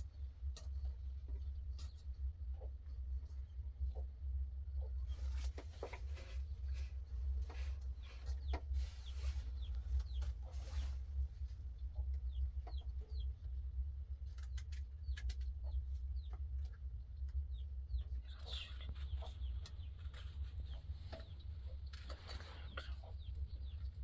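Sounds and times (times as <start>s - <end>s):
chickens clucking: 0.2s - 24.0s.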